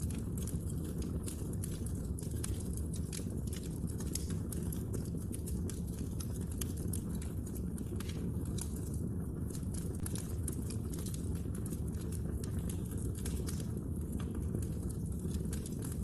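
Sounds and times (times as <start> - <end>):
burning logs crackling: 0.0 - 16.0
fire flames rumbling: 0.0 - 16.0.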